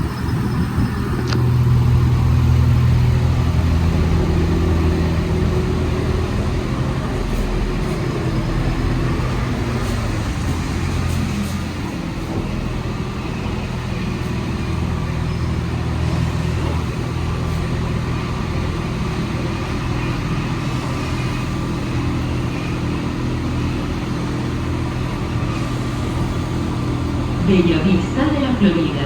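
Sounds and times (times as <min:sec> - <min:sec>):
metro train low hum: 0:00.0 - 0:29.0
train rolling noise: 0:00.0 - 0:29.0.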